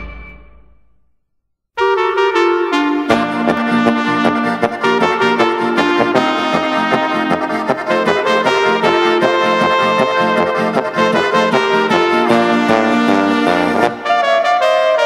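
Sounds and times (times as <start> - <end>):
brass band playing: 1.8 - 15.0.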